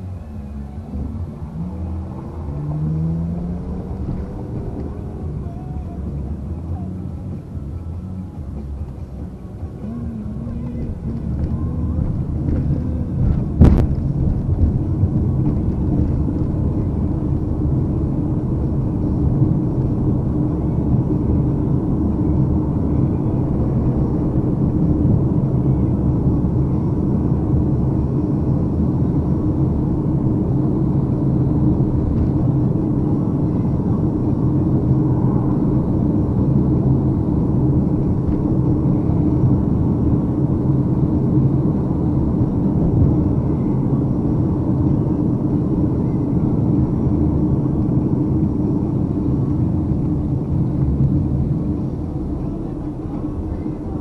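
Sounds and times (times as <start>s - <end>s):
muffled car engine and road noise: 0.0s - 54.0s.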